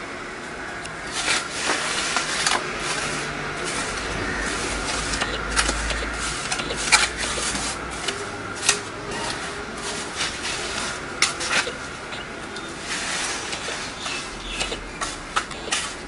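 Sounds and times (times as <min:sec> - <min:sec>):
mortar scraping and rubbing: 0:01.1 - 0:16.0.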